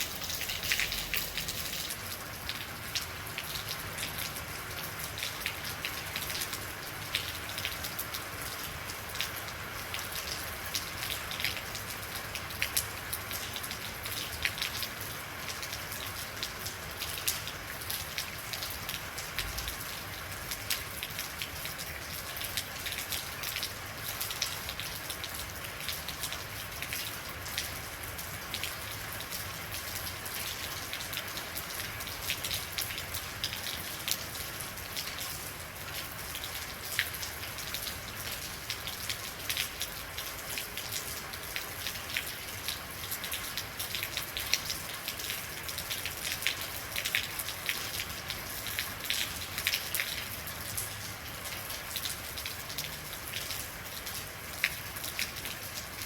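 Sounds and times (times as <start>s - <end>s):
rain pattering on hard surface: 0.0s - 56.0s.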